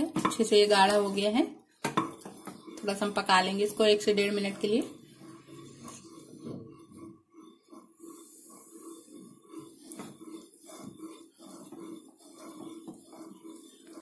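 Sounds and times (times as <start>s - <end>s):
spatula scraping saucepan: 0.0s - 14.0s.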